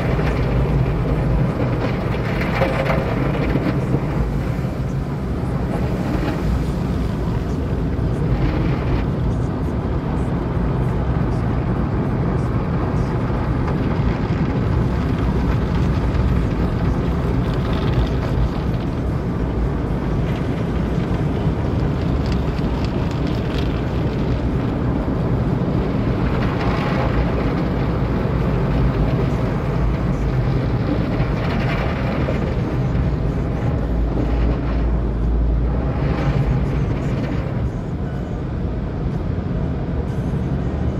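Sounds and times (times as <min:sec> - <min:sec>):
car wash machinery rumble: 0:00.0 - 0:40.9.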